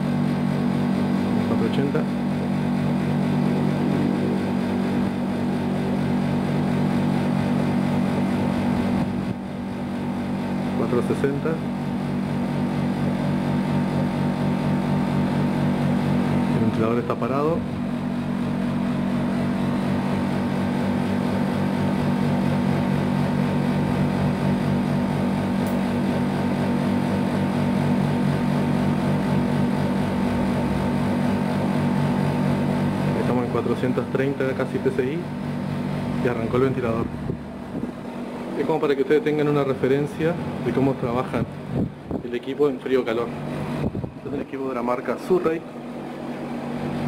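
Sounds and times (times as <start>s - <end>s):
air conditioner unit humming: 0.0s - 47.0s.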